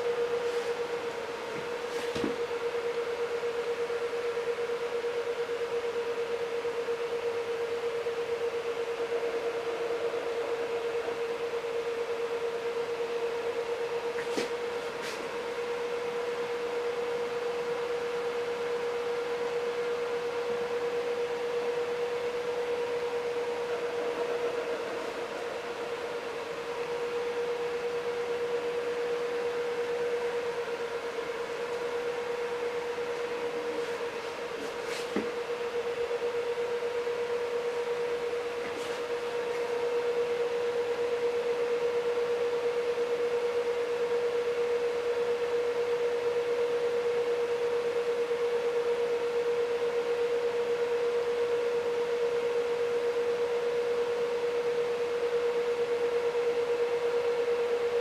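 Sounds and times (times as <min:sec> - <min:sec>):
mid-pitched hum: 0:00.0 - 0:58.0.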